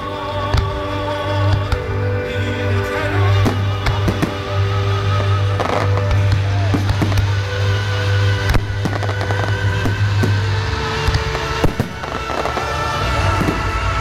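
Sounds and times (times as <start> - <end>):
music with steady bass: 0.0 - 14.0.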